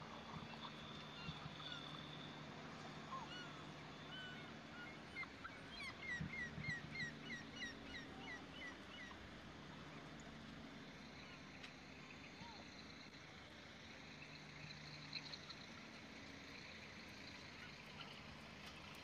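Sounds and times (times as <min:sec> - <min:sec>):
low machinery hum: 0:00.0 - 0:19.0.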